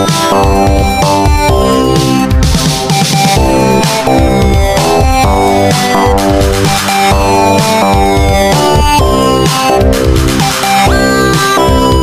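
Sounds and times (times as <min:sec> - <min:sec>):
electronic music with bass beat: 0:00.0 - 0:12.0.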